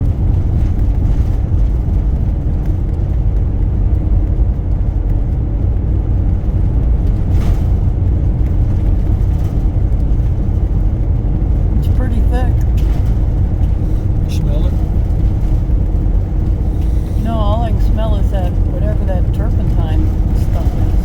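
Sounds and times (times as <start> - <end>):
road noise inside vehicle: 0.0 - 21.0
wind rumble: 0.0 - 21.0.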